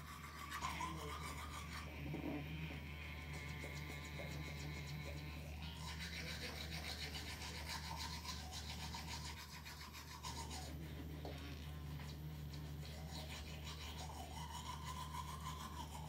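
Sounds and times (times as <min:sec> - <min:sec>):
toothbrush scrubbing teeth: 0:00.0 - 0:16.0.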